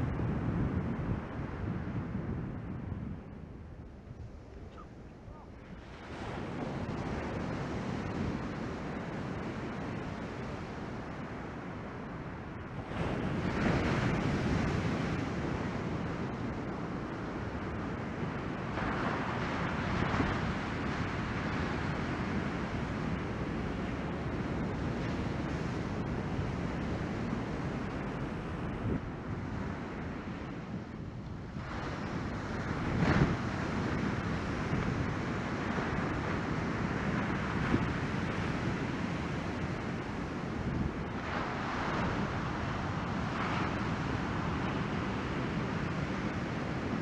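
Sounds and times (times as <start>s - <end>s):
wind buffeting microphone: 0.0s - 47.0s
ocean surf breaking on beach: 5.6s - 47.0s.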